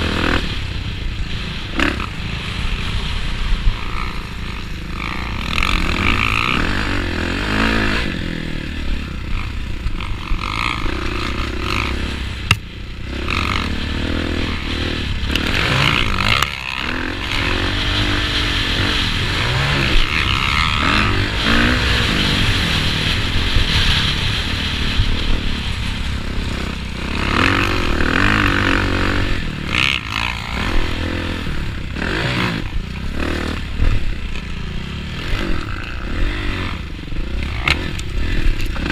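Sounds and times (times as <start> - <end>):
motocross bike engine revving: 0.0 - 38.9
steady rushing haze: 0.0 - 38.9.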